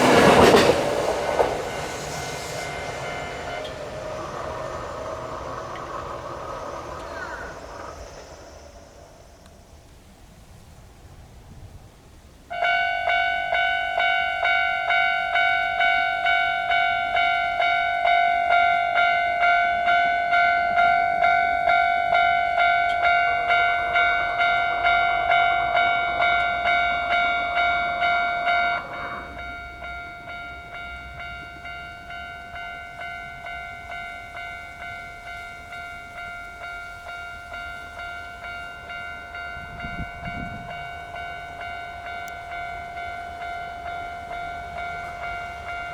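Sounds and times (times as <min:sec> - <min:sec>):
level crossing warning bell: 0:00.0 - 0:10.6, 0:12.4 - 0:45.9.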